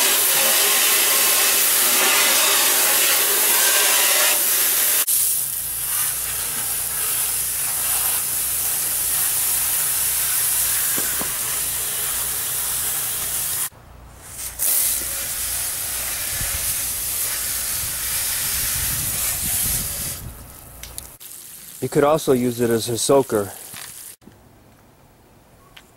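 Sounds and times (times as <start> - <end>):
water jets spraying: 0.0 - 24.2.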